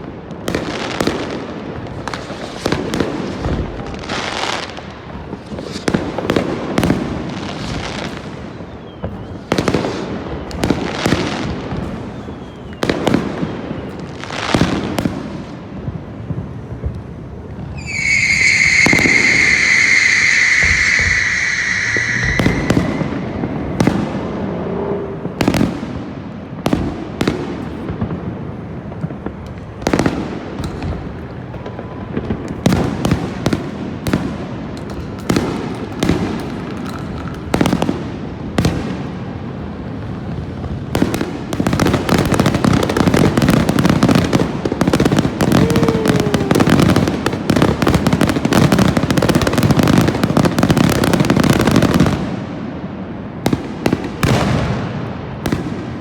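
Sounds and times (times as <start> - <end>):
fireworks bursting with echoing bangs: 0.0 - 56.0
fireworks crackling: 0.0 - 56.0.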